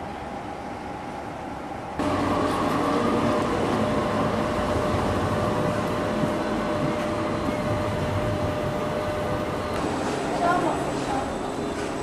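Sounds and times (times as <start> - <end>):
tram wheels and motors rumbling: 0.0 - 12.0.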